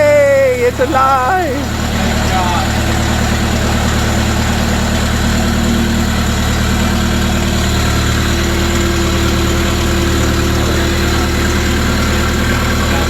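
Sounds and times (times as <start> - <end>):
loud engine idling: 0.0 - 13.0.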